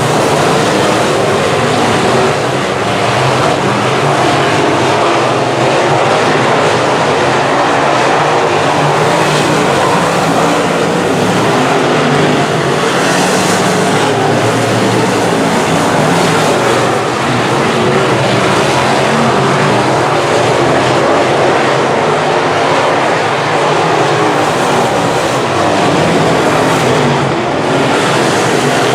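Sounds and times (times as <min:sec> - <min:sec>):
race car engines droning: 0:00.0 - 0:28.9.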